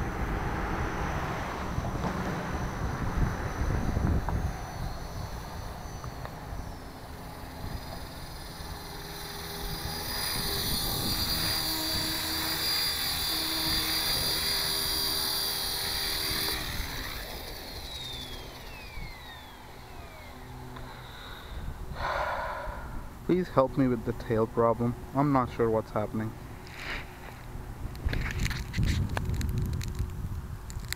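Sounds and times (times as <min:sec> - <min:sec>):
model helicopter rotor whining: 0:00.0 - 0:30.1.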